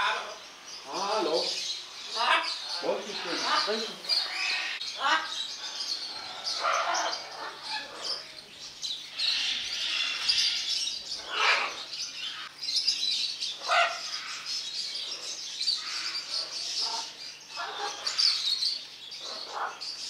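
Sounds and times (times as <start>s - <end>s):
parrots chirping and chattering: 0.0s - 20.0s.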